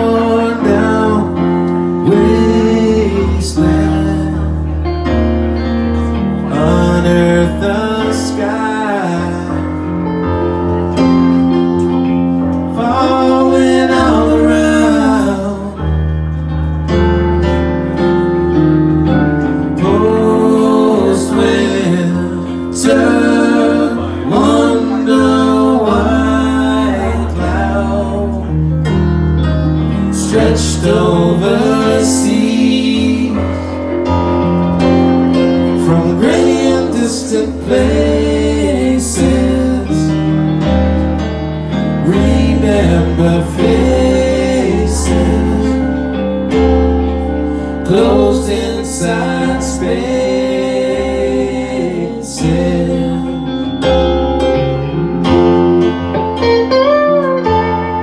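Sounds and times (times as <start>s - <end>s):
electric guitar melody: 0.0s - 58.0s
keyboard bass notes: 0.0s - 58.0s.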